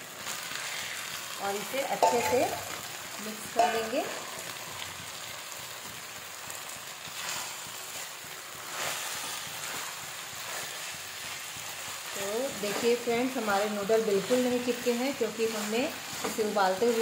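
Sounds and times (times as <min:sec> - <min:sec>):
food sizzling in a hot pan: 0:00.0 - 0:17.0.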